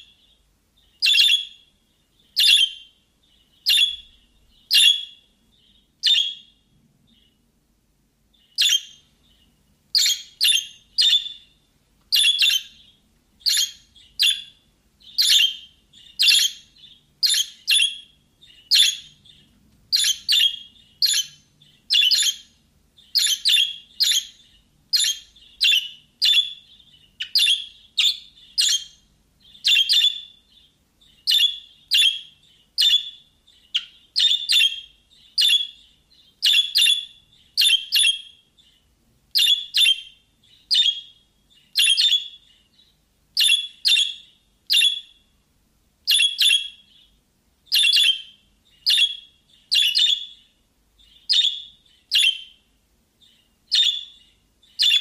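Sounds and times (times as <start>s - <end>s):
sharp bird chirps: 0.0s - 7.4s, 8.3s - 45.2s, 46.1s - 52.6s, 53.2s - 55.0s.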